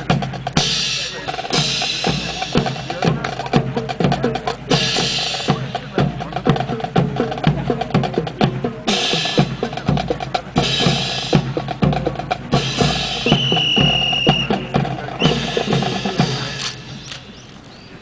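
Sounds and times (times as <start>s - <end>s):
drum-heavy percussion: 0.0s - 17.4s.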